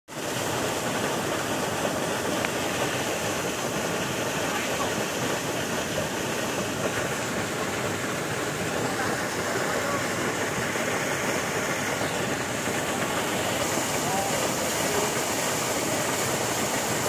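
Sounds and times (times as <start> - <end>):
river water rushing: 0.1 - 17.0.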